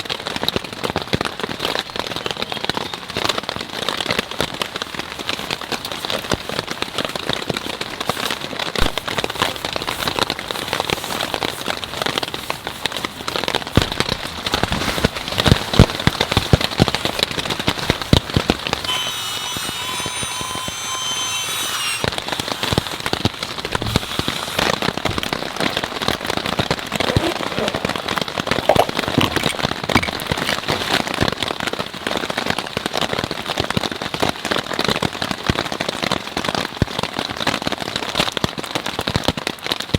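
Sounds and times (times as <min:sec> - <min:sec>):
rain patter: 0:00.0 - 0:18.8, 0:24.8 - 0:39.9.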